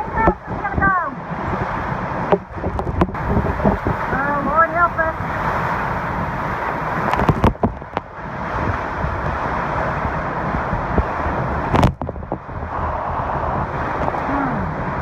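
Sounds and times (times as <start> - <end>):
storm winds blowing: 0.0 - 15.0
wind buffets on microphone: 0.0 - 15.0.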